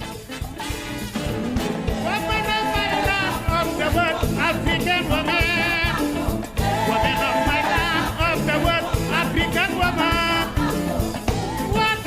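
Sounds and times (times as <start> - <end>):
drums and instruments: 0.0 - 12.0
person singing: 2.0 - 12.0.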